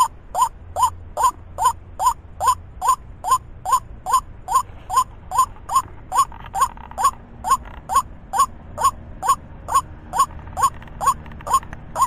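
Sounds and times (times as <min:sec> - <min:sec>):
waterhen croaking calls: 0:00.0 - 0:12.0.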